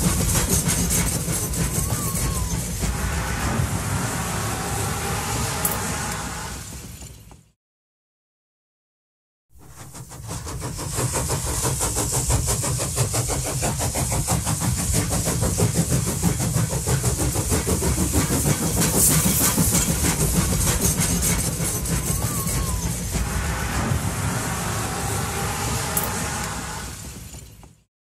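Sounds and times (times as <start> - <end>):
mechanical engine running: 0.0 - 7.2, 9.9 - 27.8.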